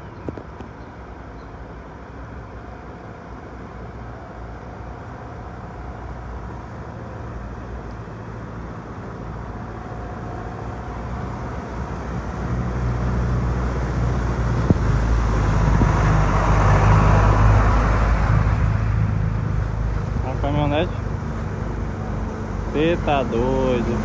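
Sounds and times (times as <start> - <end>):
truck engine hum: 0.0 - 24.0
water and tyres rushing: 0.0 - 24.0.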